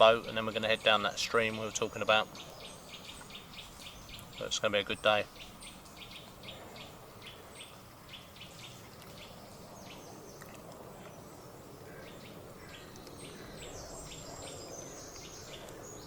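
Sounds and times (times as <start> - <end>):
faint outdoor background rush: 0.0 - 16.0
songbirds chirping and singing: 0.0 - 16.0.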